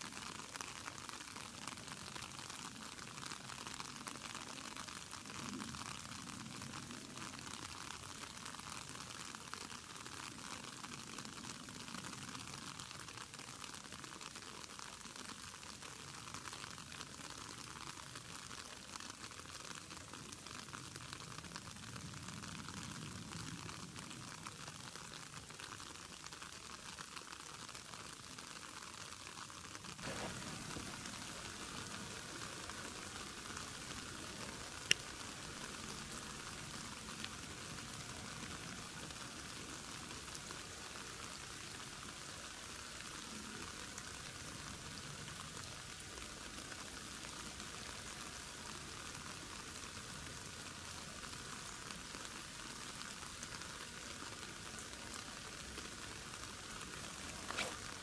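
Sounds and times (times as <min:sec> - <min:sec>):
faint outdoor hiss: 0:00.0 - 0:58.0.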